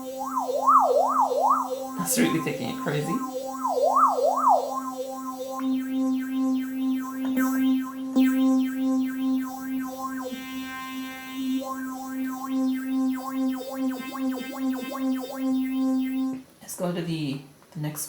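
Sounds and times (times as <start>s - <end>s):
synthesizer note with phaser: 0.0s - 16.4s.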